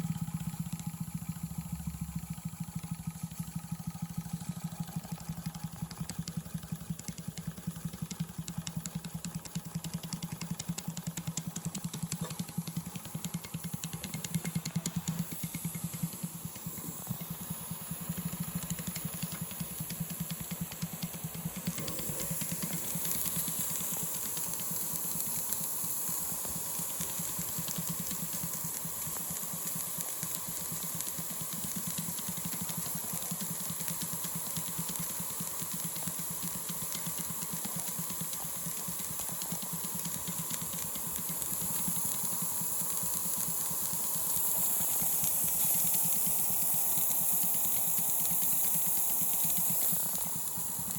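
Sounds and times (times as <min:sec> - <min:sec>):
steam engine chuffing: 0:00.0 - 0:50.9
steam hiss: 0:00.0 - 0:50.9.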